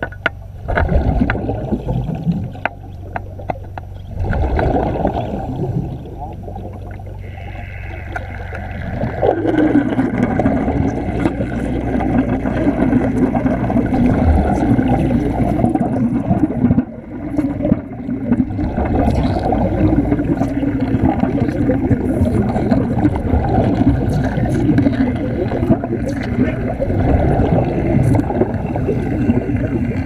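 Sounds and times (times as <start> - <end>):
underwater bubbling and crackling: 0.0 - 30.0.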